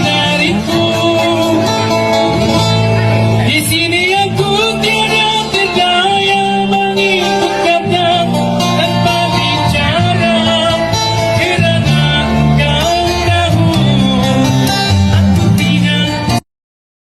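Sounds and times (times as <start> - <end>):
man singing a ballad: 0.0 - 2.2, 3.4 - 16.4
guitar accompaniment: 0.0 - 16.4
steady bass line: 0.0 - 16.4.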